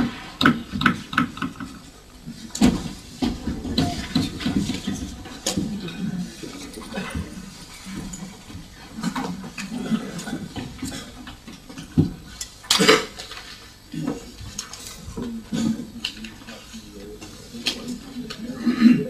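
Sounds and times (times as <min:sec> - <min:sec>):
faint murmur of voices: 0:00.0 - 0:19.0
rustling of people moving: 0:00.0 - 0:19.0.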